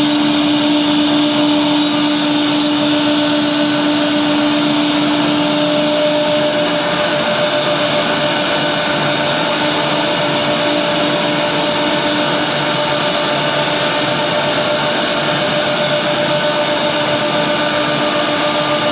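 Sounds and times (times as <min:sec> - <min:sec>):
router spindle carving wood: 0:00.0 - 0:18.9.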